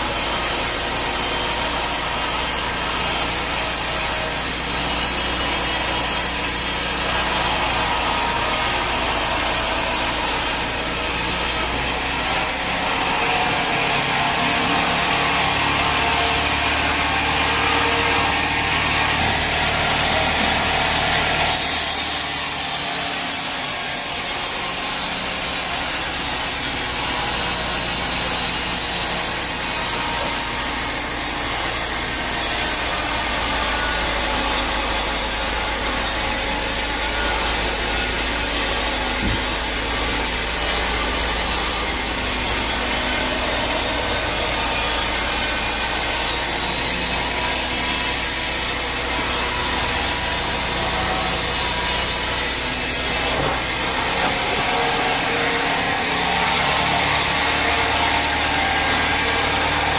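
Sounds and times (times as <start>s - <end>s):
saw blade cutting wood: 0.0s - 59.9s.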